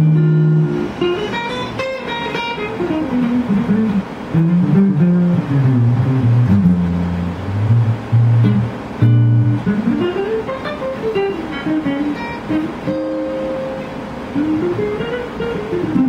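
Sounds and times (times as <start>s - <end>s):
hollow-body guitar playing: 0.0s - 16.0s.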